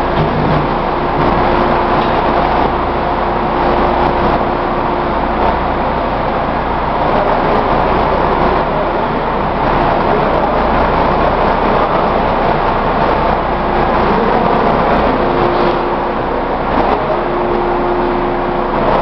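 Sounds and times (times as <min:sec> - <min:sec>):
crate washing machine running: 0:00.0 - 0:19.0.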